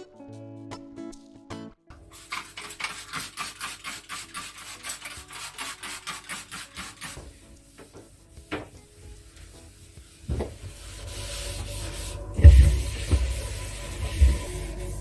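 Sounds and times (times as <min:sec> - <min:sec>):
rapid scrubbing on a surface: 0:02.1 - 0:15.0.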